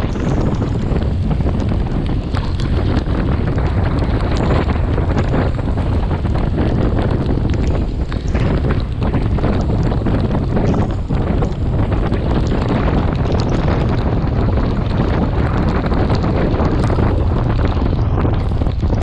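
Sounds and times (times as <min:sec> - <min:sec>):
steady rushing noise: 0:00.0 - 0:19.0
wind buffeting microphone: 0:00.0 - 0:19.0.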